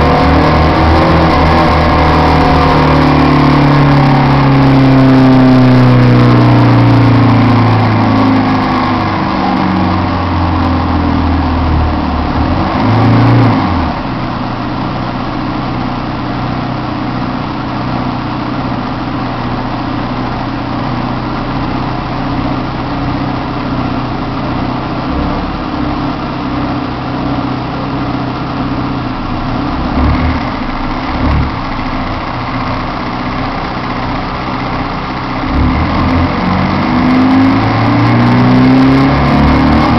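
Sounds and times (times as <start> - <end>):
bus engine running loudly: 0.0 - 39.9.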